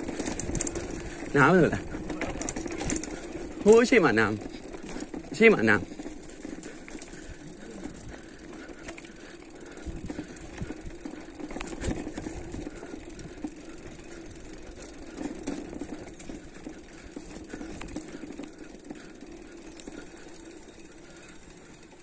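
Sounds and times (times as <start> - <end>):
mountain bike rolling and rattling: 0.0 - 22.0.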